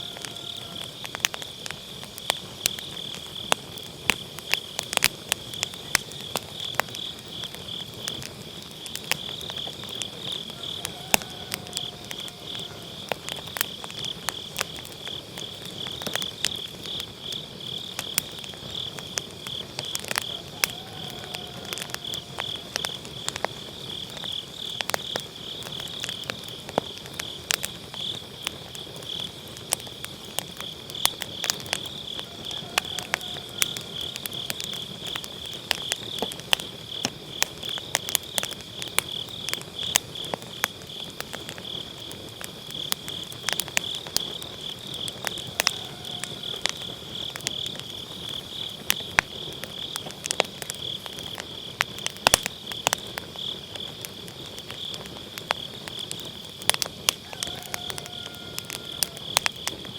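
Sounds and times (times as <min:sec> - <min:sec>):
firewood crackling and popping: 0:00.0 - 0:59.9
insects chirring: 0:00.0 - 0:59.9.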